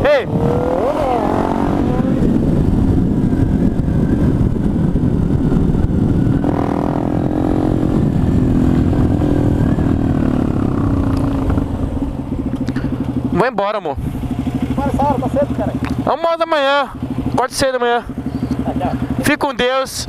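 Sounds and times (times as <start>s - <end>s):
low rushing wind noise: 0.0s - 20.0s
motorcycle engine running: 0.0s - 20.0s.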